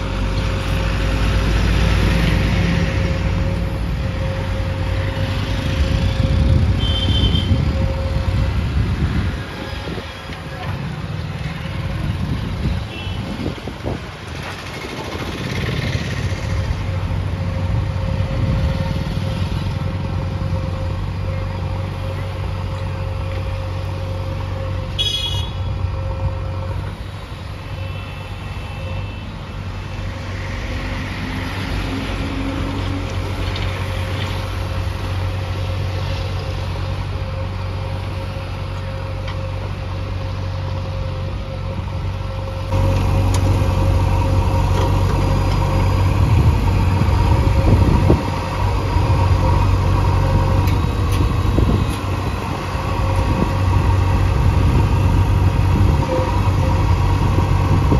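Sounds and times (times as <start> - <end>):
diesel engine running under load: 0.0 - 57.9.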